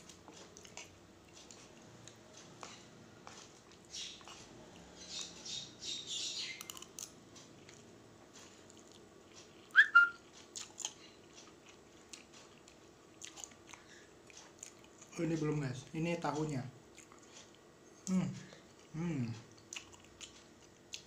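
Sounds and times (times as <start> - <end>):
chewing noodles: 0.0 - 5.3, 6.6 - 15.1, 16.9 - 17.6, 18.5 - 21.0.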